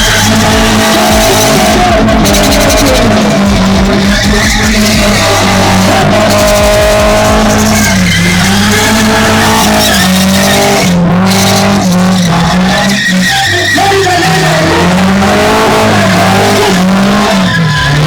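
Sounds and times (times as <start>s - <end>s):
background music: 0.0s - 18.0s
car engine revving high: 0.0s - 18.0s
tyres squealing: 0.0s - 18.0s.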